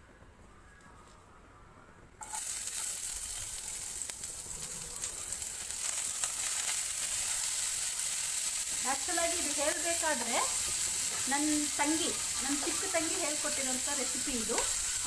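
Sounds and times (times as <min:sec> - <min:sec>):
food sizzling in hot oil: 0:02.2 - 0:15.0.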